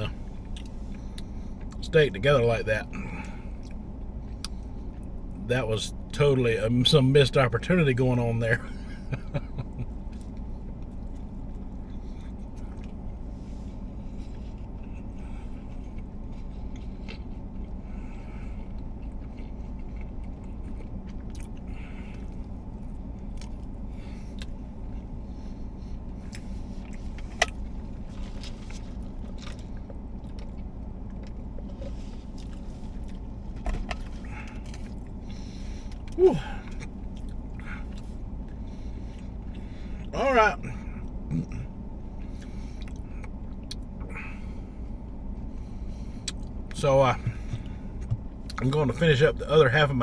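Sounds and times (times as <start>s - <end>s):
car cabin engine hum: 0.0s - 50.0s
chewing and biting sandwich: 8.6s - 48.7s.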